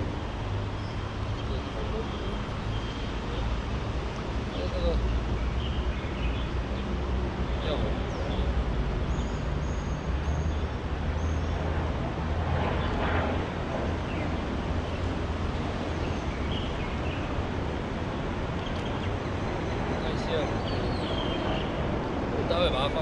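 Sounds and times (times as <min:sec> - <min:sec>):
traffic rumble on bridge overhead: 0:00.0 - 0:23.0.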